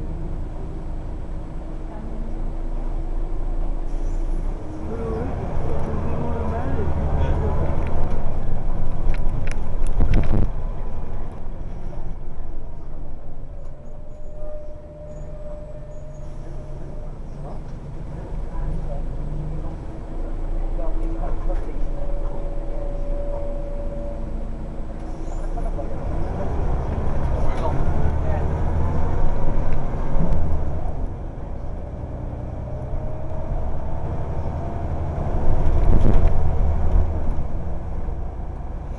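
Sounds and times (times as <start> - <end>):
bus engine rumbling: 0.0 - 38.9.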